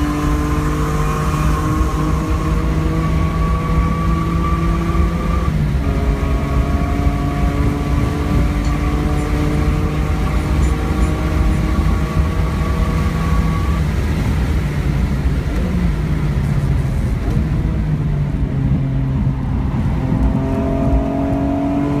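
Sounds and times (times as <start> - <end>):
car engine accelerating: 0.0 - 22.0
road and wind noise: 0.0 - 22.0.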